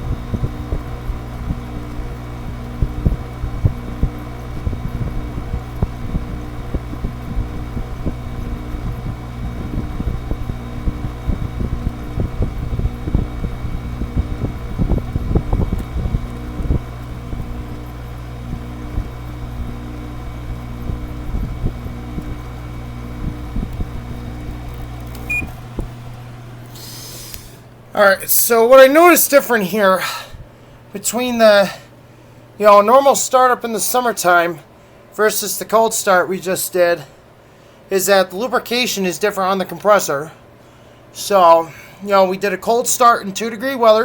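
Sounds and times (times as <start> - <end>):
window air conditioner humming: 0.0 - 44.0.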